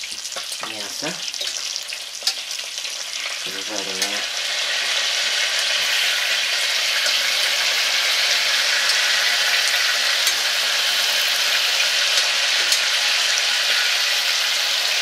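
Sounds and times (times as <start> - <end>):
pork sizzling in fat: 0.0 - 15.0.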